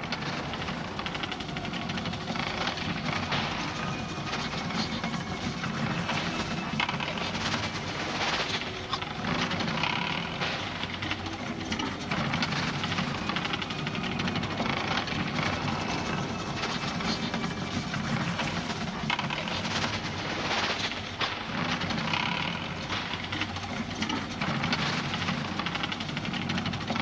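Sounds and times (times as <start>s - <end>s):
rushing hiss with rapid crackle: 0.0s - 27.0s.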